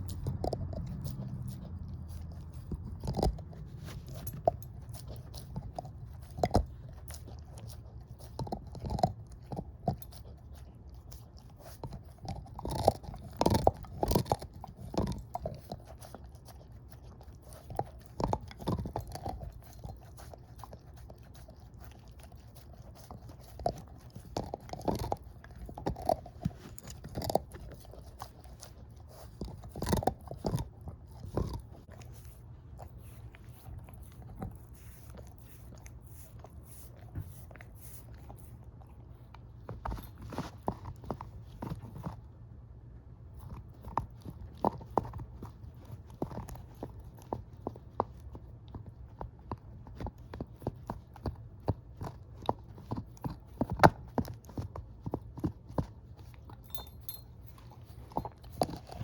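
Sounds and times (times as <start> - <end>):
dog crunching a bone: 0.0 - 59.0
low steady hum: 0.0 - 59.0.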